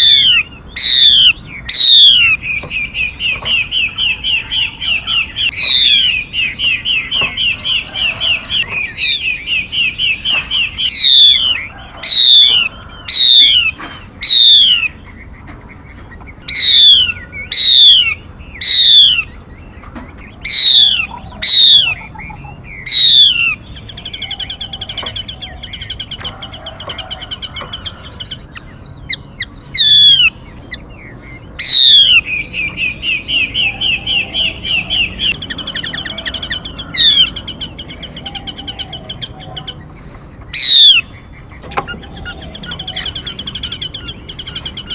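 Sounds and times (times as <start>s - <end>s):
songbird trill: 0.0s - 44.9s.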